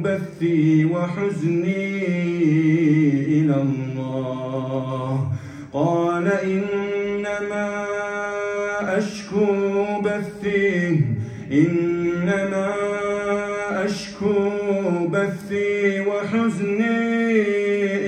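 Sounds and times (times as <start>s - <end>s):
man chanting melodically: 0.0s - 18.0s.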